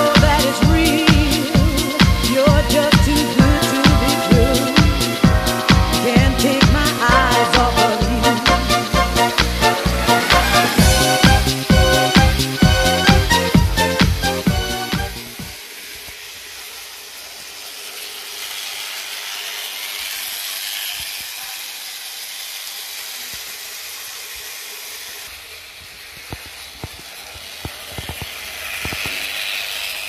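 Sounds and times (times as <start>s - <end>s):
model train whirring: 0.0s - 30.0s.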